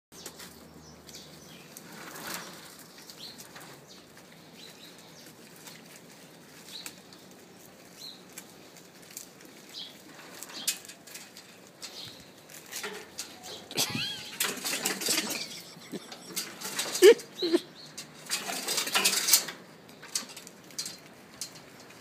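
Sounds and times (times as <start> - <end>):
leaves rustling: 0.2 - 22.0.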